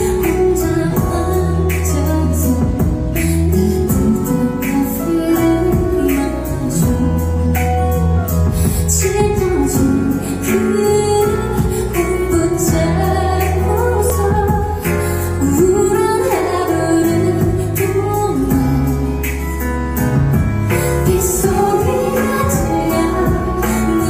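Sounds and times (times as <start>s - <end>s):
bass and steady beat: 0.0s - 24.0s
woman singing pop ballad: 0.0s - 24.0s.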